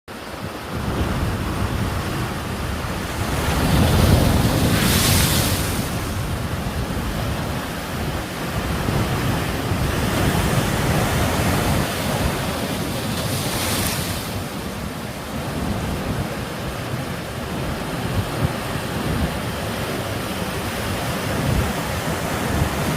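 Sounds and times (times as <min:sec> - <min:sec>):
sea waves breaking: 0:00.1 - 0:22.9
wind buffeting microphone: 0:00.2 - 0:22.9.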